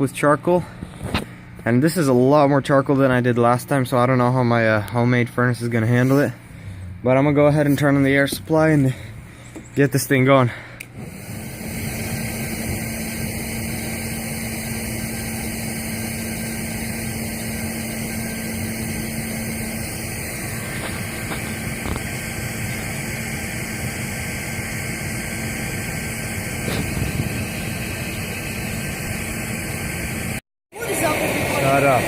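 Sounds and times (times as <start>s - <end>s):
low hum: 0.0s - 32.0s
electric air blower running: 5.9s - 32.0s.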